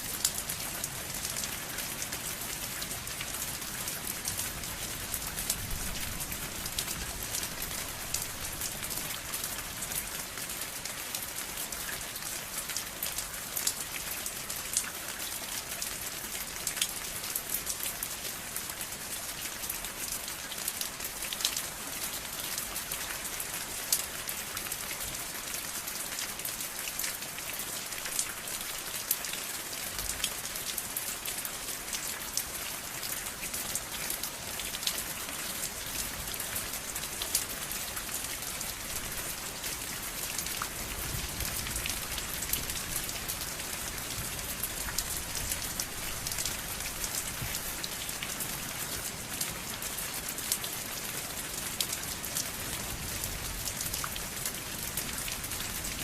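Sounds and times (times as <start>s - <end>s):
rain drops pattering: 0.0s - 56.0s.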